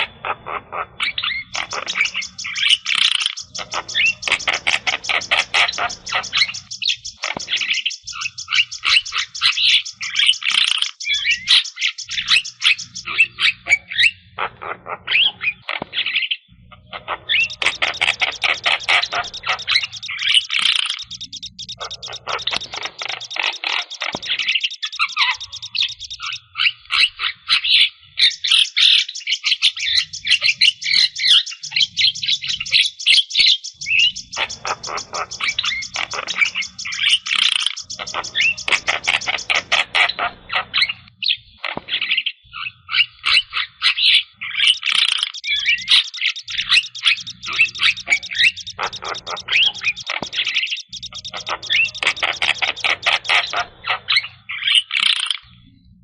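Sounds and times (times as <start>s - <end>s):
starling singing: 0.0s - 55.8s.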